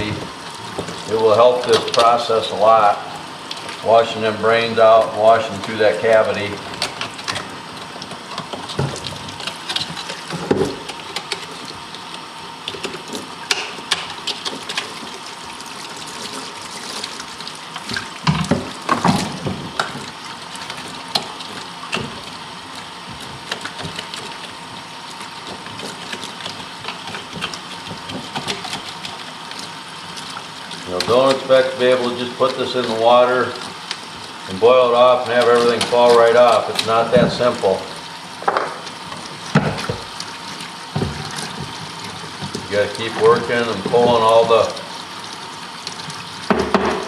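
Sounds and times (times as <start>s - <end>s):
water running from faucet: 0.0s - 47.0s.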